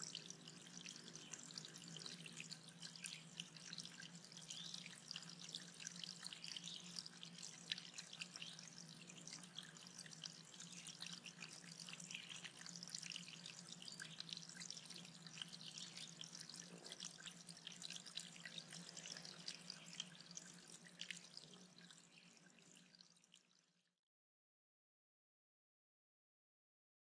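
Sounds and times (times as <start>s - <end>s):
low steady hum: 0.0s - 23.4s.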